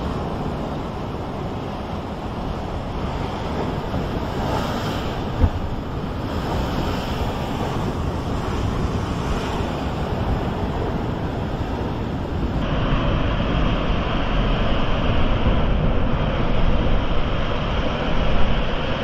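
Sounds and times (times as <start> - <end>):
sea surf washing on shore: 0.0 - 19.0
wind buffeting microphone: 0.0 - 19.0.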